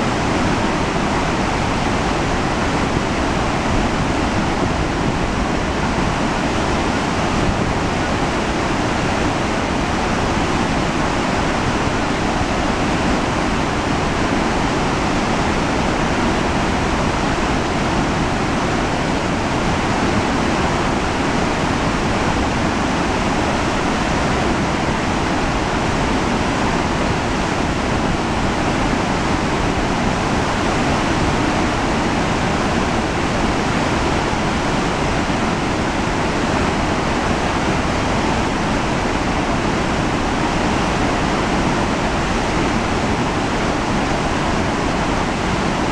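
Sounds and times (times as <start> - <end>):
white water rushing: 0.0 - 45.9.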